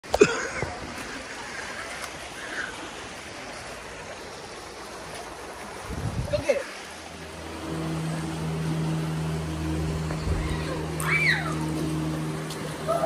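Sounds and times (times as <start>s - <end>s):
water running over stones: 0.0s - 13.0s.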